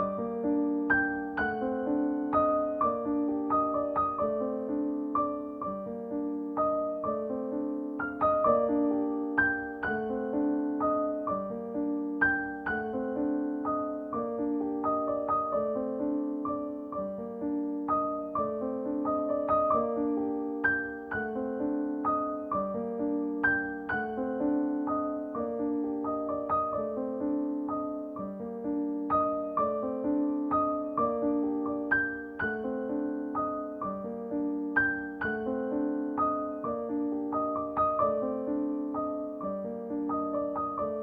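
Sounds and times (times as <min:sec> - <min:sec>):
gentle piano music: 0:00.0 - 0:41.0.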